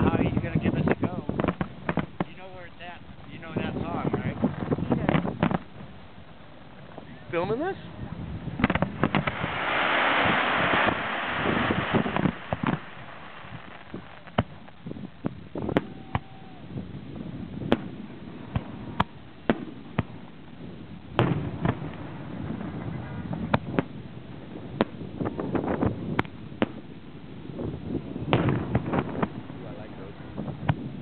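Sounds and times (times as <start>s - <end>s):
fireworks banging: 0.0s - 31.0s.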